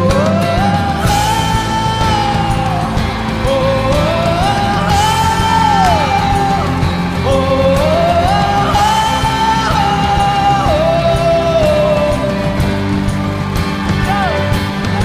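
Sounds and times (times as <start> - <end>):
person singing high wordless notes: 0.0 - 13.0
band accompaniment: 0.0 - 15.0.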